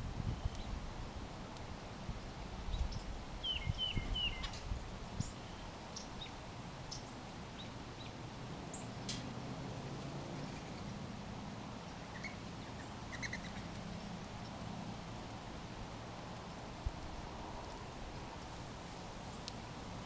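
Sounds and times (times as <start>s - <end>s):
small birds chirping: 0.3s - 0.8s, 2.2s - 9.2s, 10.3s - 11.1s, 11.8s - 20.0s.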